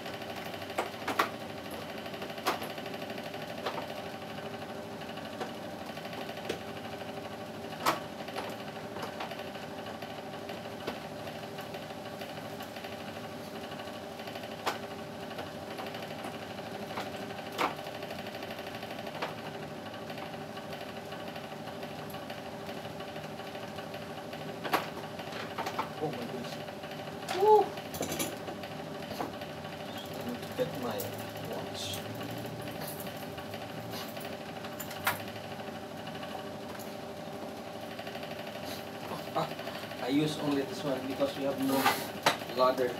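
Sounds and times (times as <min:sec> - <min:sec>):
electric motor hum with rattle: 0:00.0 - 0:42.9.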